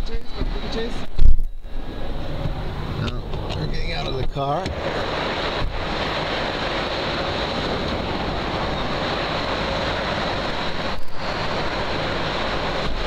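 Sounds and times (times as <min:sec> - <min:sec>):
processing machinery rumble and hiss: 0:00.0 - 0:13.0.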